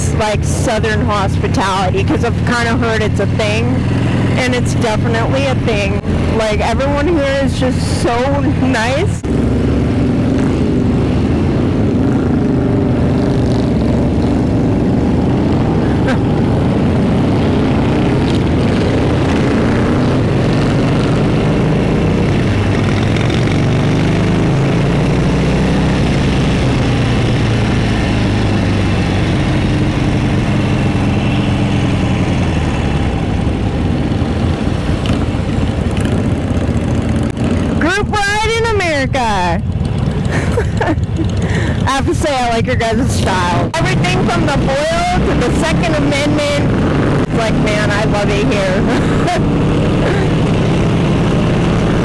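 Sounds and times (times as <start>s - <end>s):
motorcycle engine revving: 0.0s - 52.0s
road and wind noise: 0.0s - 52.0s.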